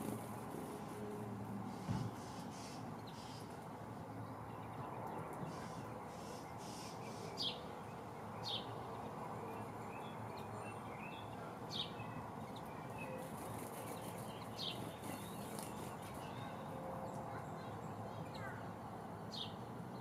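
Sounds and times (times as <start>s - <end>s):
outdoor background noise: 0.0s - 20.0s
songbirds chirping: 1.6s - 20.0s.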